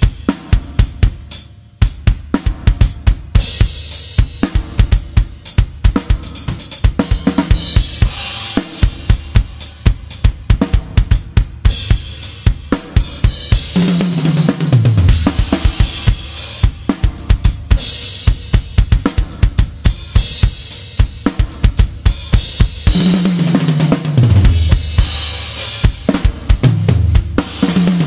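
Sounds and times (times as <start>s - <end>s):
drum kit groove: 0.0s - 28.0s.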